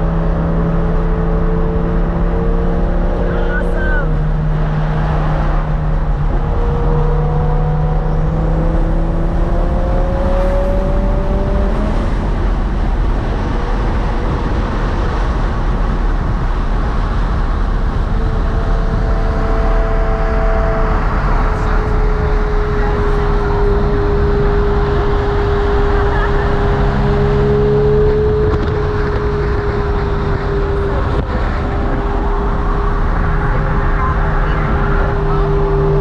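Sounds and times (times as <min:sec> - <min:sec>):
car engine drone: 0:00.0 - 0:36.0
road noise: 0:00.0 - 0:36.0.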